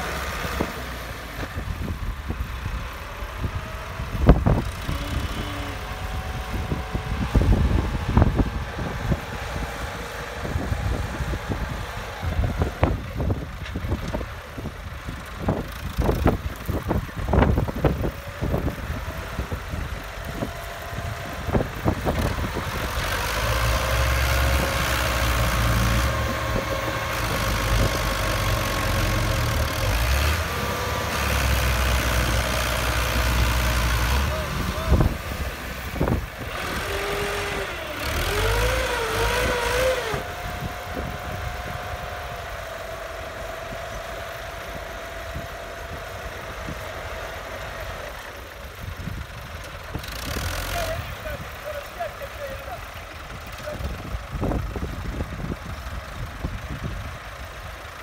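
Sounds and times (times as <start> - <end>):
diesel tractor engines under load: 0.0 - 58.0.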